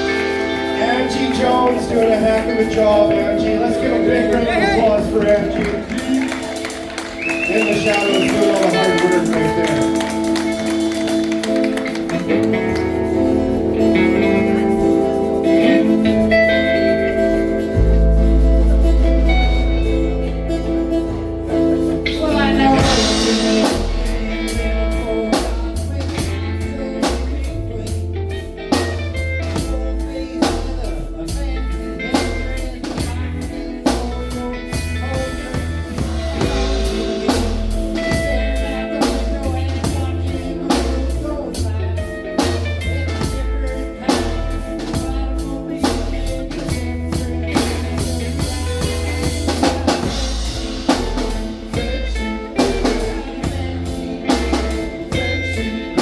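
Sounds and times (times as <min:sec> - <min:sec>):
drum kit beat: 0:00.0 - 0:56.0
live blues-rock band: 0:00.0 - 0:56.0.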